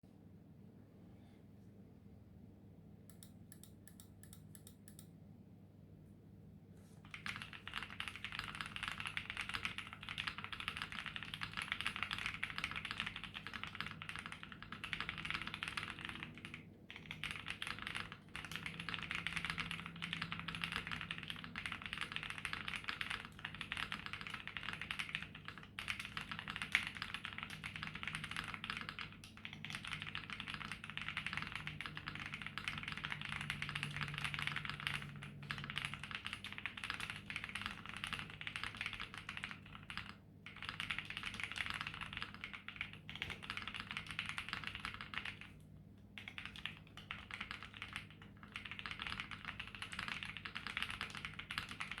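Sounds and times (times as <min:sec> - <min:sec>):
fast typing on mechanical keyboard: 0:07.0 - 0:52.0.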